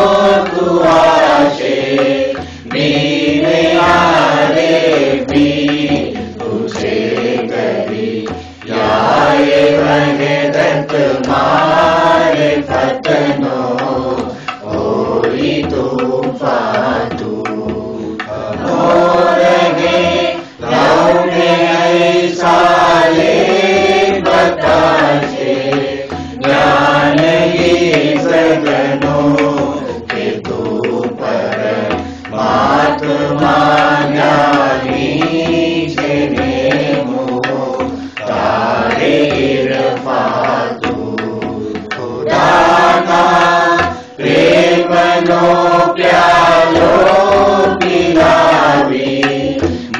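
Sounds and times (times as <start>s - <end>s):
voices singing devotional song: 0.0s - 49.9s.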